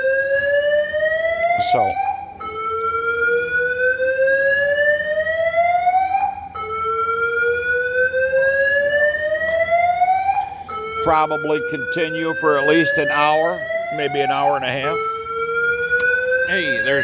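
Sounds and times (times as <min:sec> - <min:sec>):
alarm siren whoop: 0:00.0 - 0:17.0.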